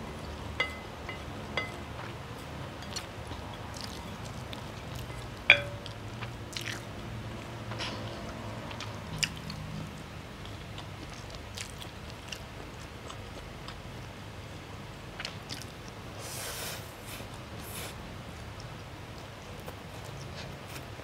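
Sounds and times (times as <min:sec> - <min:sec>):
chewing and biting food: 0:00.0 - 0:16.2, 0:17.3 - 0:21.0.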